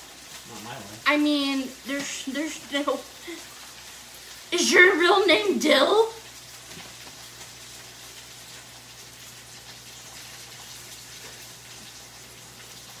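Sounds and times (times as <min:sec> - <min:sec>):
low mains hum: 0:00.0 - 0:13.0
steady hiss: 0:00.0 - 0:13.0.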